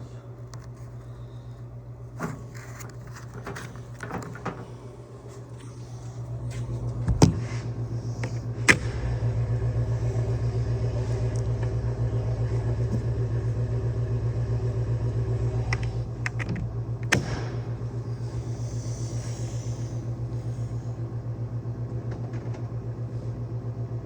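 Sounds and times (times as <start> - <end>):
motor pulsing hum: 0.0 - 24.0.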